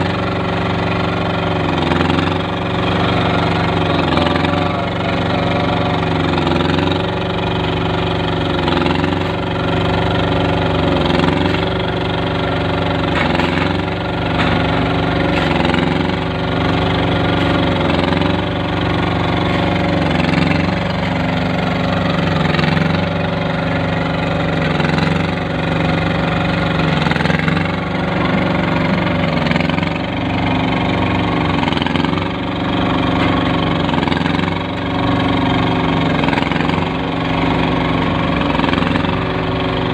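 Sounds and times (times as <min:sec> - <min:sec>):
small machine engine running: 0:00.0 - 0:39.9.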